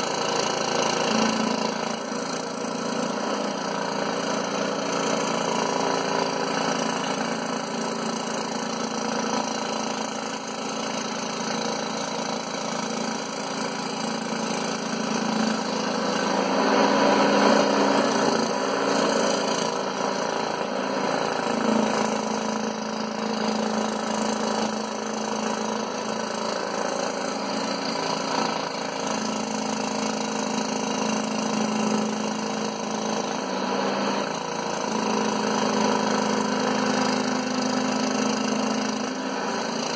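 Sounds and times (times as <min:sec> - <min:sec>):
scroll saw cutting: 0:00.0 - 0:39.9.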